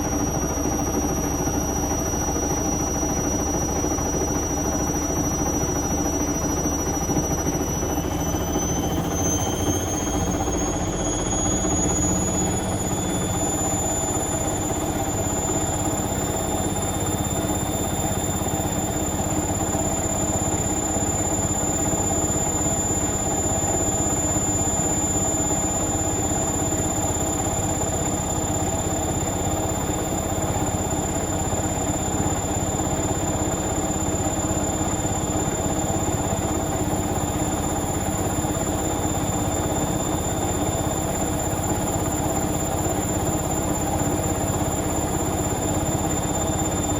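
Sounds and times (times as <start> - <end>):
washing machine spin hum: 0.0 - 46.9.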